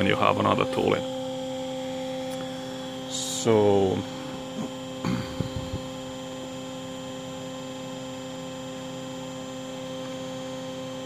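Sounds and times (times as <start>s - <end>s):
lathe electrical hum: 0.0s - 11.0s.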